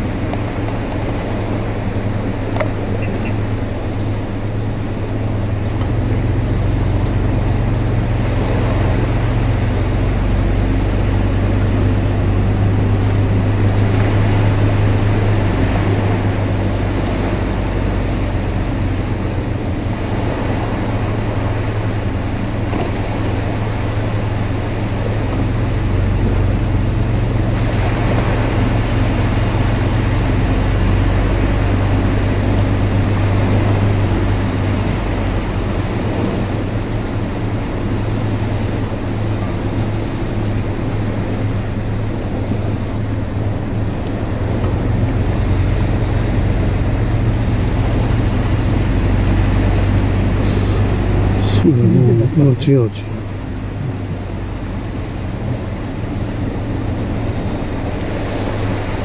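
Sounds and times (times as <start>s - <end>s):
low motor drone: 0.0s - 59.0s
outdoor noise: 0.0s - 59.0s.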